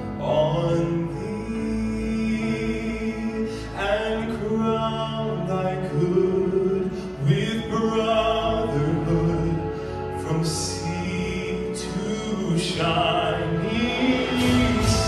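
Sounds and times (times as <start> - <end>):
person singing: 0.0 - 15.0
slow music with held notes: 0.0 - 15.0.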